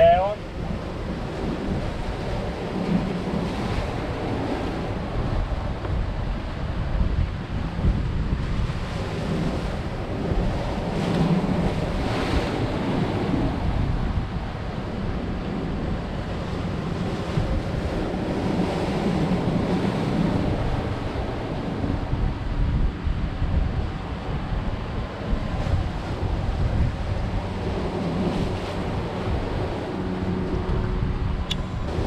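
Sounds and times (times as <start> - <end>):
surf washing against rocks: 0.0 - 31.2, 31.8 - 32.0
wind buffeting microphone: 0.0 - 32.0.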